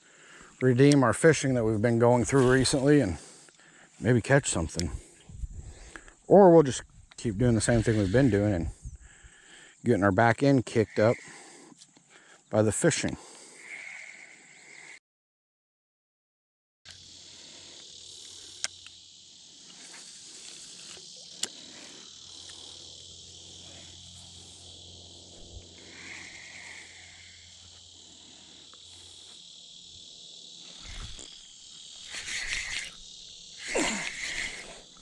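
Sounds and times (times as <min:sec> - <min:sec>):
high-pitched insect chorus: 0:00.0 - 0:15.0, 0:16.9 - 0:35.0.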